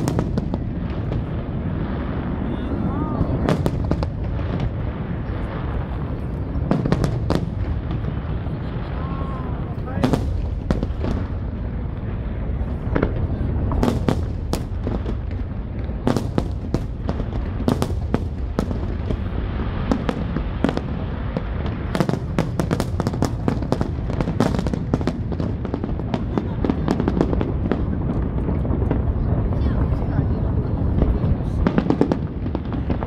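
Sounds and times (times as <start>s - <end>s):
firework cracks and crackles: 0.0s - 33.0s.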